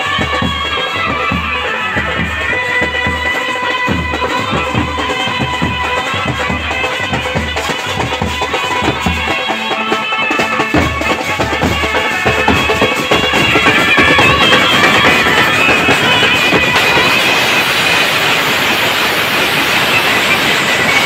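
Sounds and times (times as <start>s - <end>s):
trumpet melody: 0.0s - 21.0s.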